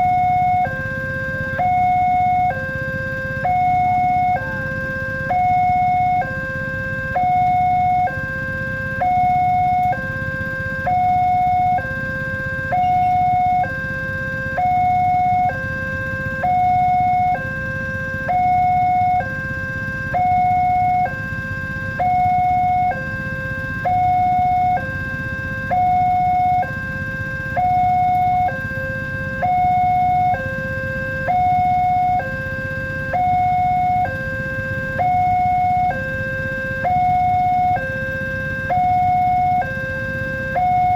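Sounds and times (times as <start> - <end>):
two-tone level crossing alarm: 0.0 - 40.9.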